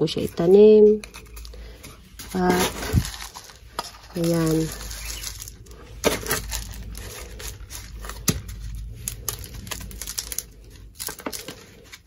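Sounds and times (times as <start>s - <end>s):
potting grit pouring and scraping: 0.0s - 12.0s.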